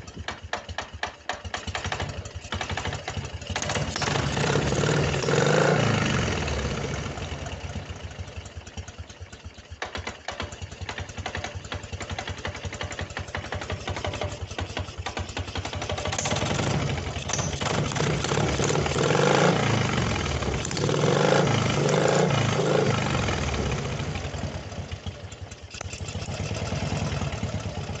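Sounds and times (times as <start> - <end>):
knocking engine revving: 0.0 - 8.9, 9.8 - 28.0.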